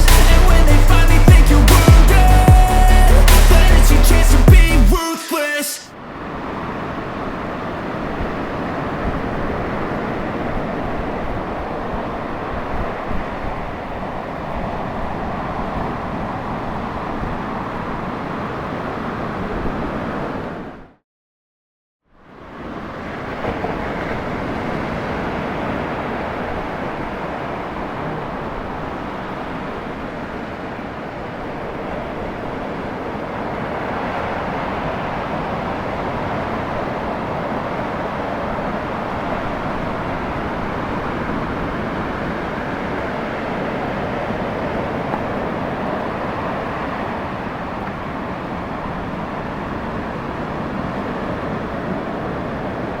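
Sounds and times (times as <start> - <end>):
ocean surf roaring: 4.9 - 20.8, 22.3 - 53.0.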